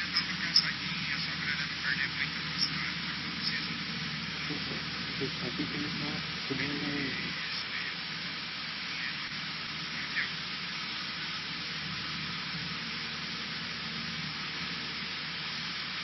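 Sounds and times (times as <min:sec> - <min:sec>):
airflow hiss: 0:00.0 - 0:16.0
airplane engine and propeller drone: 0:00.0 - 0:16.0.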